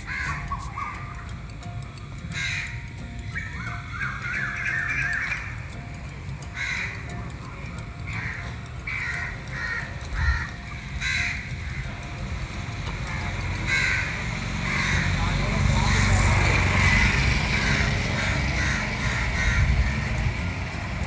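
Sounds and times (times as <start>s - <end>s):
crows cawing: 0.0s - 1.2s, 2.2s - 5.7s, 6.4s - 7.2s, 8.1s - 12.2s, 13.0s - 20.3s.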